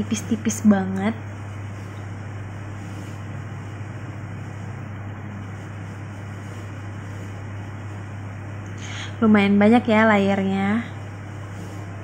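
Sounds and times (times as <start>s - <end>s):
room noise hiss: 0.0s - 12.0s
steady low hum: 0.0s - 12.0s.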